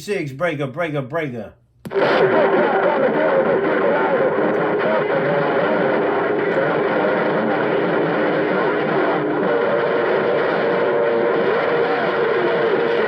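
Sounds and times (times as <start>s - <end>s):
distorted voices talking over one another: 1.9s - 13.0s.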